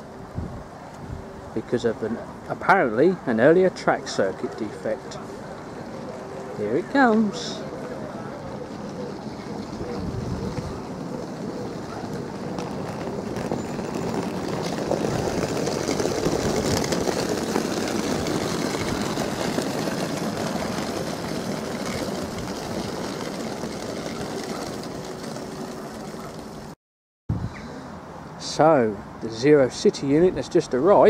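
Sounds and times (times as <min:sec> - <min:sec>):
electric train arriving: 0:00.0 - 0:26.7.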